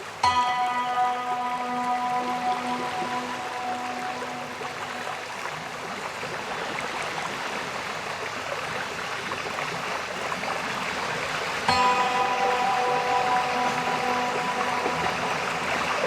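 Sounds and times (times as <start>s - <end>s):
waterfall splashing: 0.0s - 16.0s.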